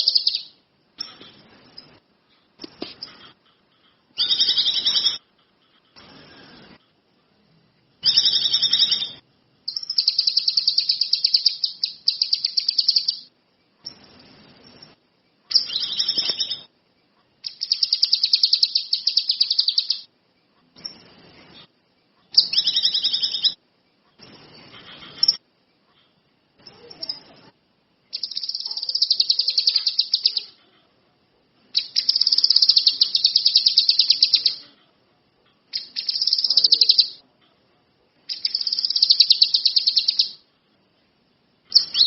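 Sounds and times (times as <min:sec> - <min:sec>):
songbird chirping and trilling: 0:00.0 - 0:02.0, 0:04.1 - 0:06.8, 0:08.0 - 0:30.8, 0:31.6 - 0:34.7, 0:35.6 - 0:37.2, 0:38.2 - 0:40.5, 0:41.7 - 0:42.0.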